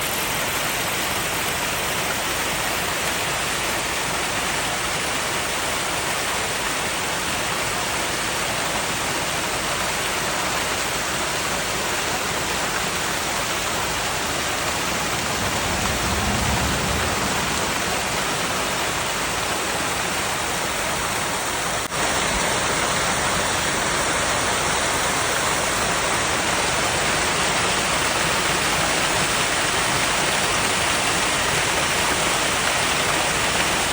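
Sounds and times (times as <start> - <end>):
waterfall over rocks: 0.0 - 33.9.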